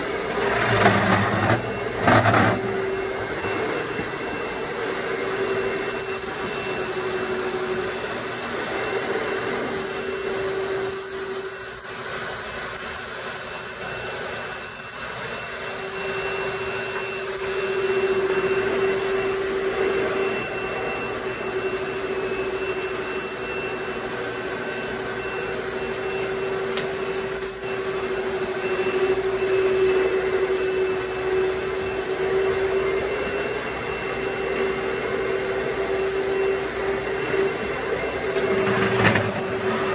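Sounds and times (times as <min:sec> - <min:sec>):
blower motor high whine: 0:00.0 - 0:39.9.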